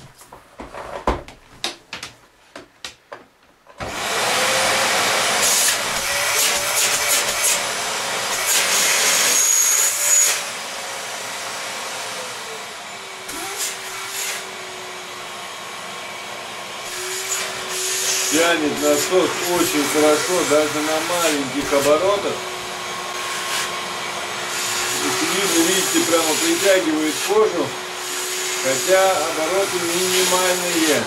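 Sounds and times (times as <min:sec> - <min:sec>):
vacuum cleaner running: 0:03.8 - 0:31.0.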